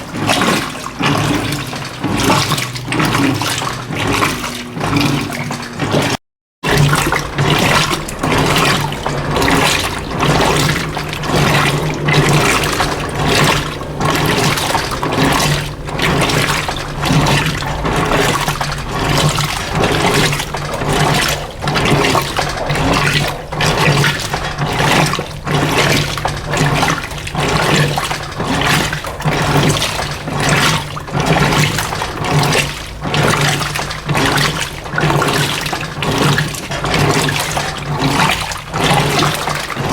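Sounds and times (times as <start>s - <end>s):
washing machine motor hum: 0.0s - 39.9s
water and wet rugs sloshing: 0.0s - 39.9s.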